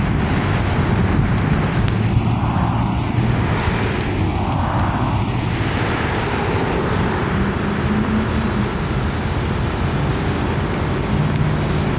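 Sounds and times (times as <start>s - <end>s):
car engine hum: 0.0s - 11.9s
road traffic: 0.0s - 11.9s.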